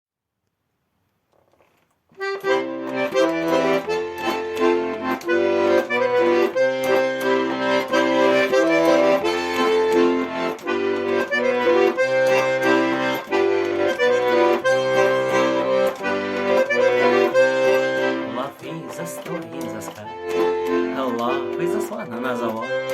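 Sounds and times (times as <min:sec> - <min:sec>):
instrumental music with bass line: 0:02.2 - 0:22.9.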